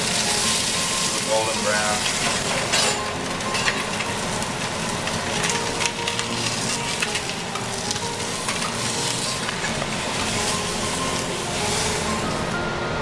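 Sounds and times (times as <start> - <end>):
fish sizzling in a frying pan: 0.0 - 12.6.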